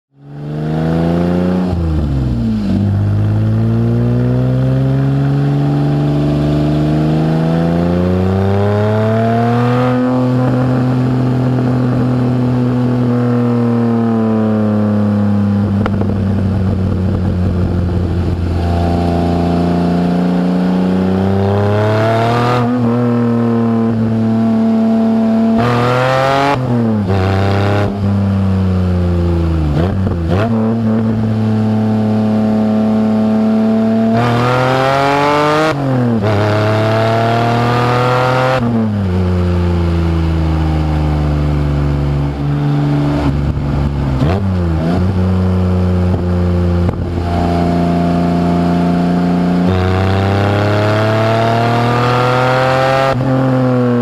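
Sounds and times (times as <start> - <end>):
supercharged engine accelerating: 0.2 - 54.0.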